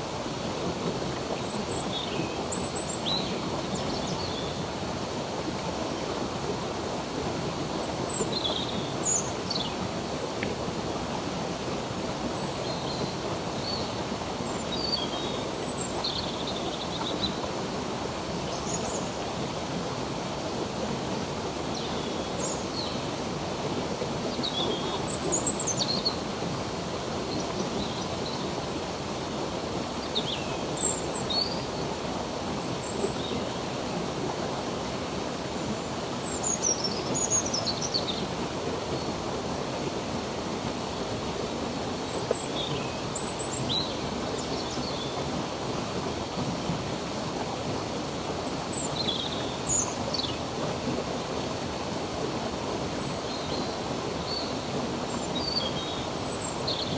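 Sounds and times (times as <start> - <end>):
stream water running: 0.0 - 56.9.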